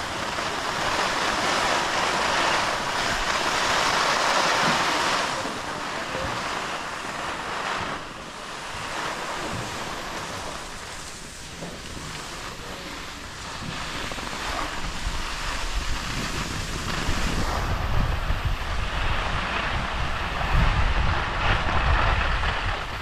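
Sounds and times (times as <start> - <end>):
skis scraping over snow: 0.0 - 23.0
wind on microphone: 0.0 - 23.0.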